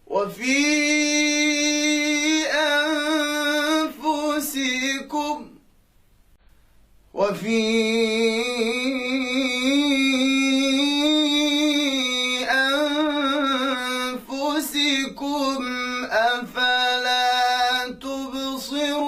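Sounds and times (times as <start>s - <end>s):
man chanting recitation: 0.0s - 5.6s, 7.1s - 19.0s.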